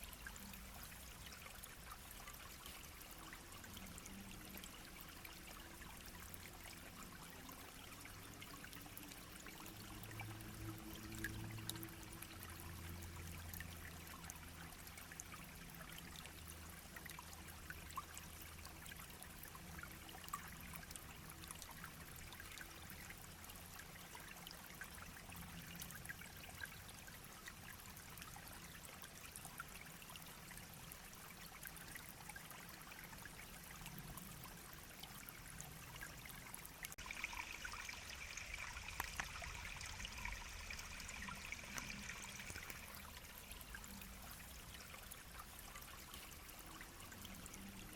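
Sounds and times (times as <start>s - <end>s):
brook babbling: 0.0s - 47.9s.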